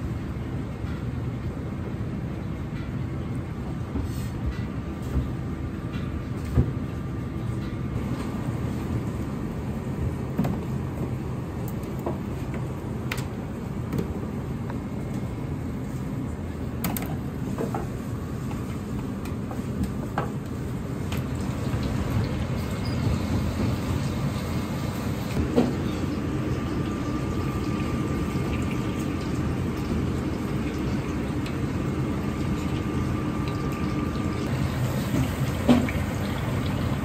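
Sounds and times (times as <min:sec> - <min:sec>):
kitchen machinery rumble: 0:00.0 - 0:37.0.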